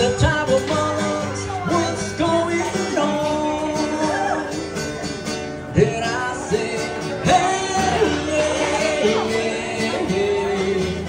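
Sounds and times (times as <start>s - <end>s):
person singing: 0.0s - 4.6s, 5.8s - 11.0s
guitar accompaniment: 0.0s - 11.0s.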